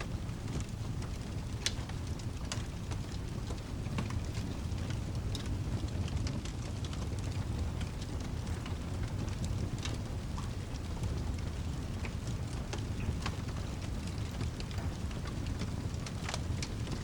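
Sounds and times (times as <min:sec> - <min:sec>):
sharp ticks and crackles: 0:00.0 - 0:17.0
steady rain: 0:00.0 - 0:17.0.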